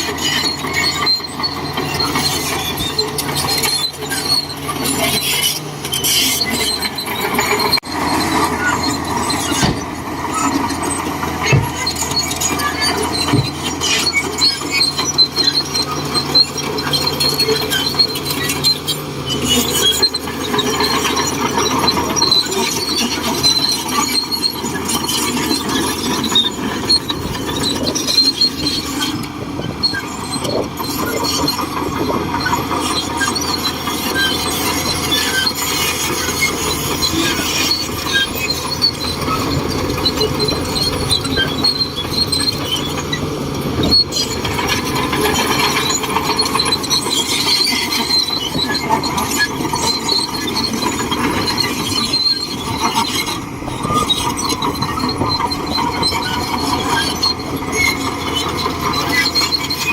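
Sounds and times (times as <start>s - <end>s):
bulldozer engine running: 0.0s - 59.9s
steel tracks squealing and clanking: 0.0s - 59.9s.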